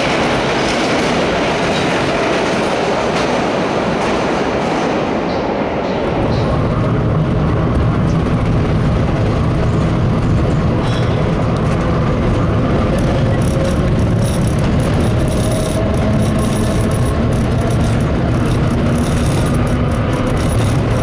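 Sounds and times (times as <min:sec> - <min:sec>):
subway wheels rumbling on rails: 0:00.0 - 0:21.0.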